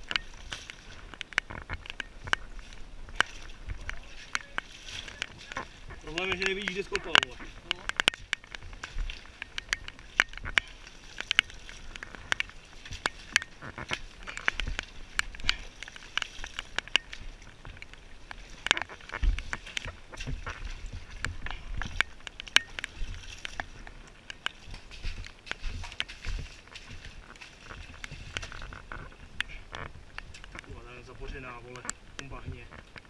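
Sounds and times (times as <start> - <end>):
pickaxe and shovels digging mud: 0.0 - 17.6, 18.3 - 29.8.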